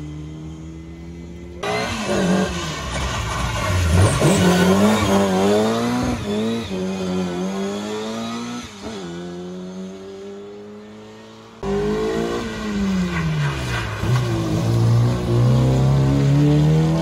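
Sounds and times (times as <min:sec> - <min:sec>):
close rally car engine: 0:00.0 - 0:17.0
rally car engine revving: 0:00.0 - 0:17.0.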